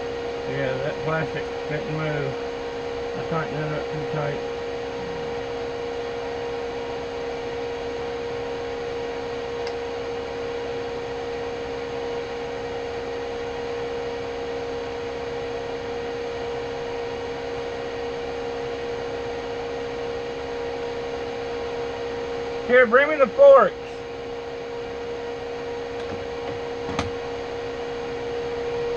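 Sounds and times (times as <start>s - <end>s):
electric motor hum: 0.0s - 28.9s.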